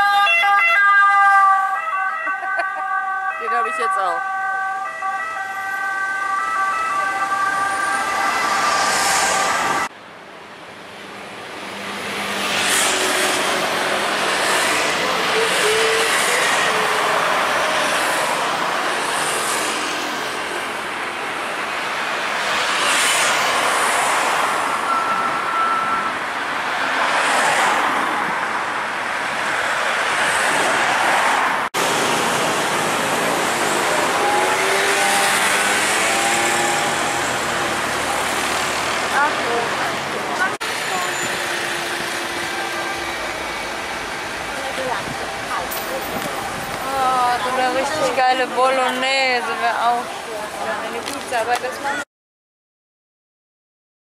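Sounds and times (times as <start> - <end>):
vehicles passing on city road: 0.0 - 52.1.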